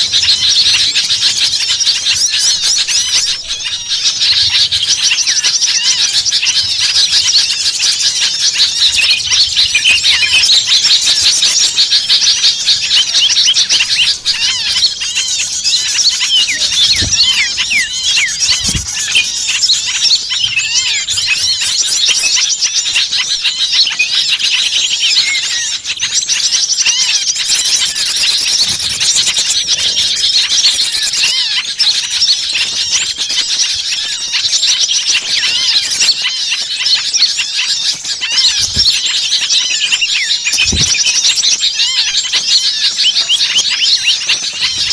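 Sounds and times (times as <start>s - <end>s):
chorus of small birds chirping: 0.0s - 44.9s.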